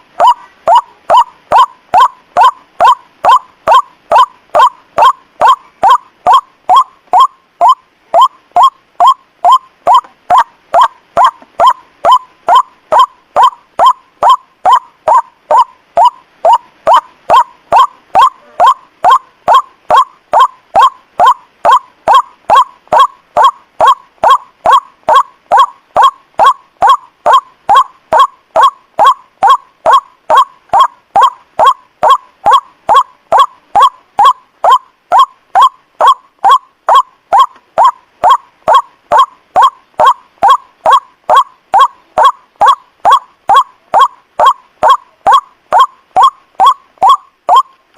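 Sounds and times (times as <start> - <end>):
bird call repeating: 0.2 - 47.8.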